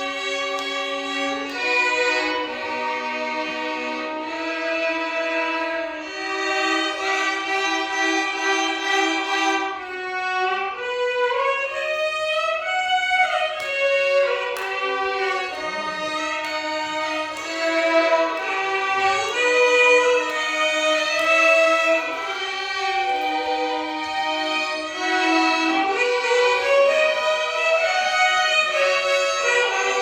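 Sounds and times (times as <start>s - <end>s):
violin ensemble melody: 0.0s - 30.0s.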